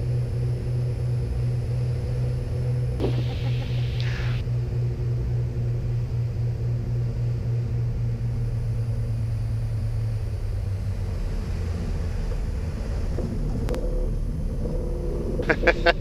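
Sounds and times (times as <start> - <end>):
aircraft piston engines droning: 0.0 - 16.0.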